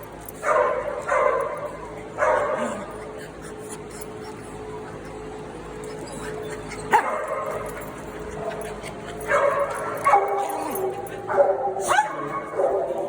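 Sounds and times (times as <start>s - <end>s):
small dogs barking and yipping: 0.0s - 13.0s.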